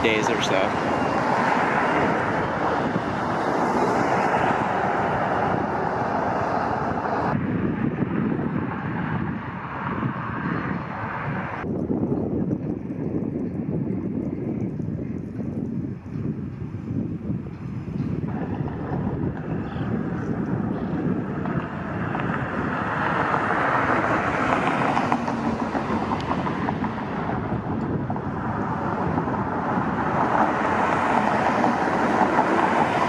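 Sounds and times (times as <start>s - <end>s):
road traffic passing: 0.0s - 33.0s
wind on microphone: 0.0s - 33.0s.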